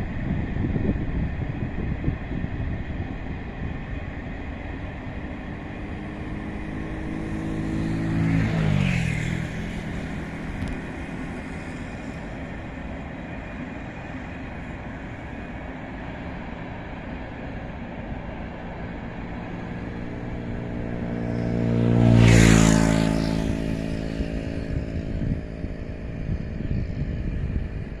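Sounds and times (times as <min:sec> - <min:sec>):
electric locomotive passing: 0:00.0 - 0:28.0.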